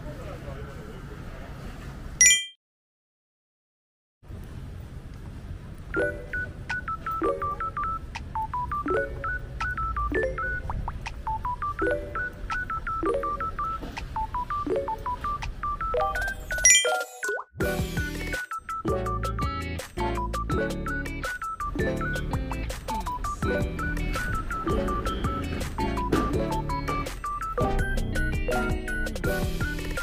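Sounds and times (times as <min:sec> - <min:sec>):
beep-like melody over chords: 0:06.0 - 0:30.0.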